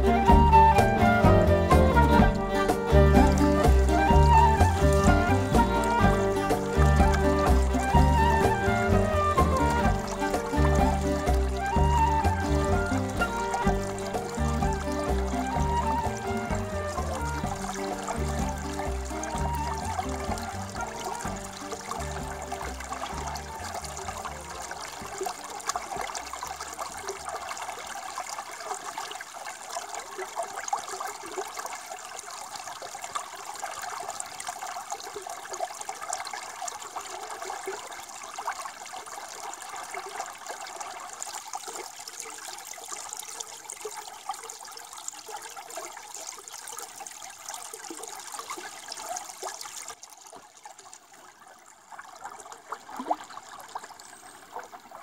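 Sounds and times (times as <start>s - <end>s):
creek water splashing over rocks: 0.0s - 55.0s.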